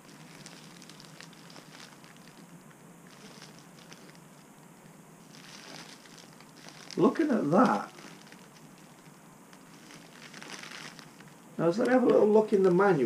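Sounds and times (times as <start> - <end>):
plastic bags crinkling: 0.0 - 4.6, 5.2 - 13.0.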